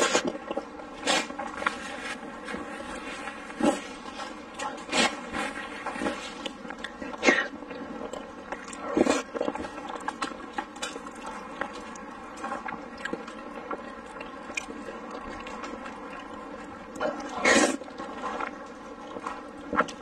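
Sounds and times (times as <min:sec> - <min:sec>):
person chewing with mouth smacks: 0:00.0 - 0:20.0.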